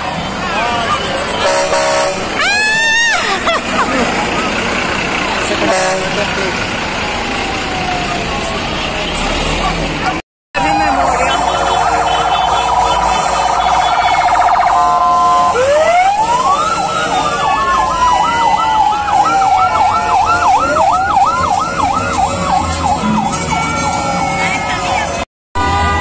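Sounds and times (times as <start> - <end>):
emergency vehicle sirens: 0.0 - 26.0.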